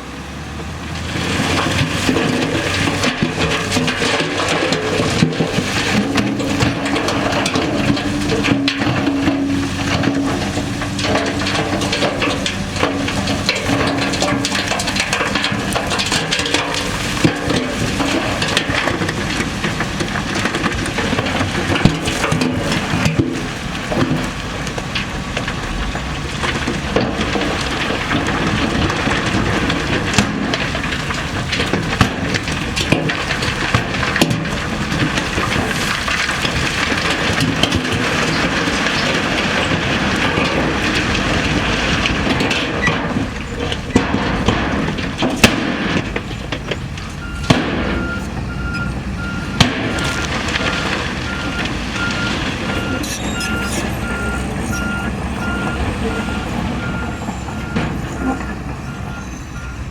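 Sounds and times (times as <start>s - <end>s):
machine running under load: 0.0s - 59.9s
rock crunching and grinding: 0.8s - 58.8s
sharp cracks and knocks: 0.9s - 54.2s.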